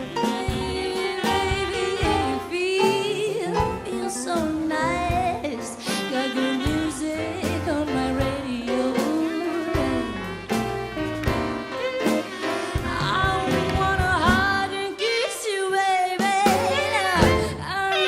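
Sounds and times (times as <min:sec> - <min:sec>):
swing band playing slow blues: 0:00.0 - 0:18.0.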